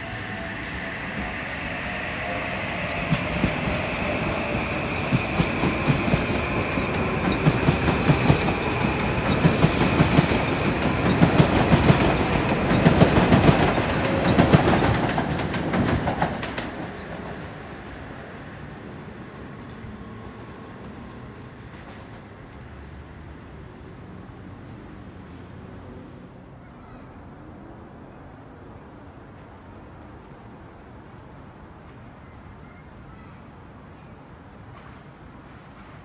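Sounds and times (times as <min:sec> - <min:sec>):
high steady train whine: 0:00.0 - 0:26.6, 0:27.2 - 0:36.0
train passing: 0:00.0 - 0:26.6, 0:27.4 - 0:36.0.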